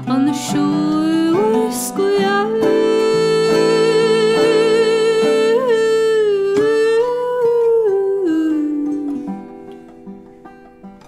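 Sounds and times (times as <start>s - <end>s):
acoustic folk band playing: 0.0s - 11.0s
held melody line with vibrato: 0.0s - 11.0s
plucked strings and bass notes: 0.0s - 11.0s.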